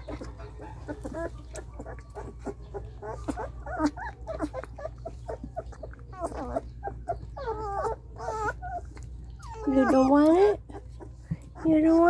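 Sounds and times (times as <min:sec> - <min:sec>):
puppies whimpering and squeaking: 0:00.0 - 0:12.0.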